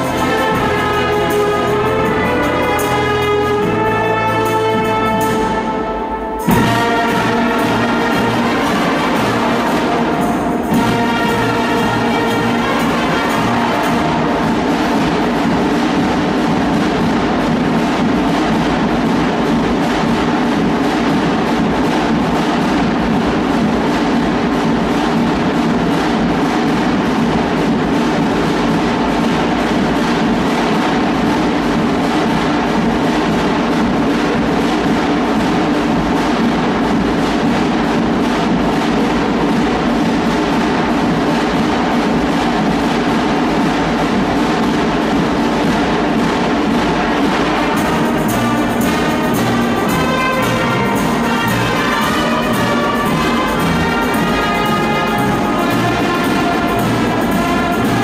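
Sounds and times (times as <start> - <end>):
drums: 0.0 - 58.0
wind band playing marching music: 0.0 - 58.0.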